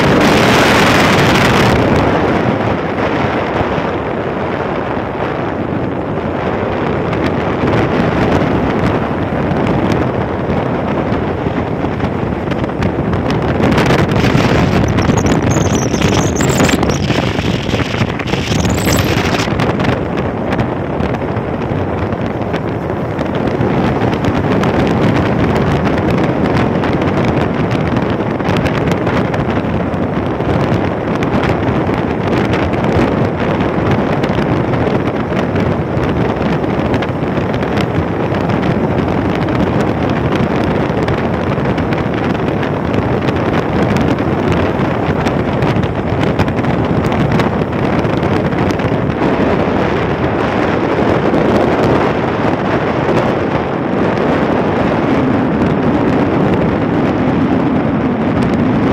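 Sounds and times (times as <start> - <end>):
motorcycle engine and road noise: 0.0 - 58.9
wind rushing over microphone: 0.0 - 58.9.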